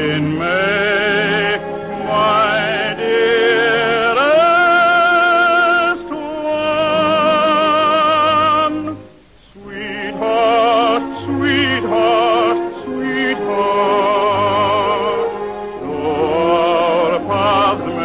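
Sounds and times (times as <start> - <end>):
operatic singing with vibrato: 0.0 - 18.0.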